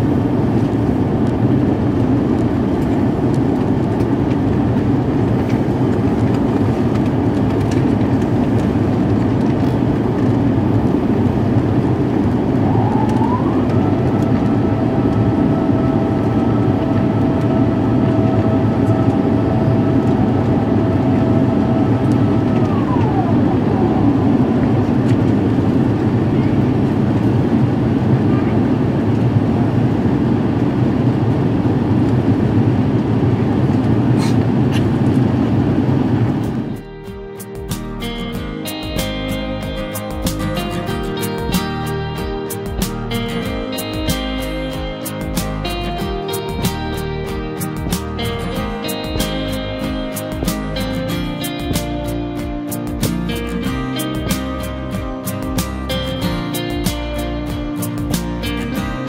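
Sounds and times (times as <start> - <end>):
mechanical whine: 0.0 - 54.6
airplane cabin engine rumble: 0.0 - 59.0.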